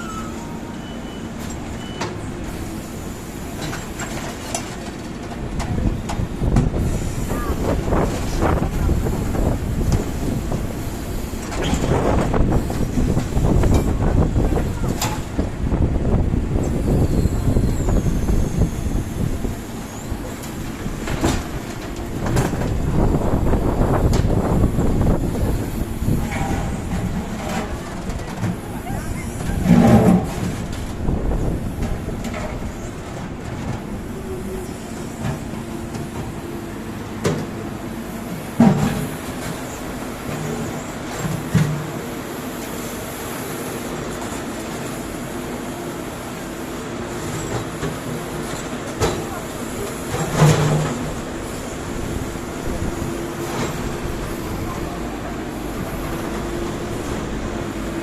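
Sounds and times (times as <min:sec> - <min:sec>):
heavy machinery rumble: 0:00.0 - 0:58.0.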